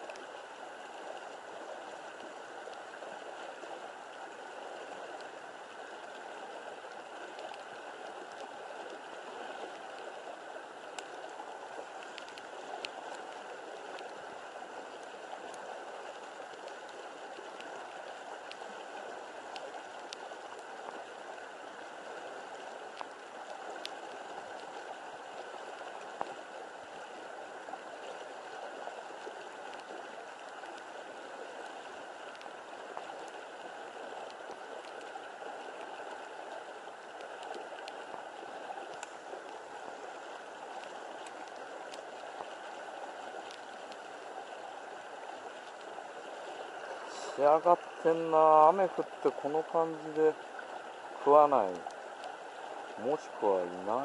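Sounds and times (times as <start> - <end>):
faint ticks: 0.0 - 54.0
flowing water rushing: 0.0 - 54.0.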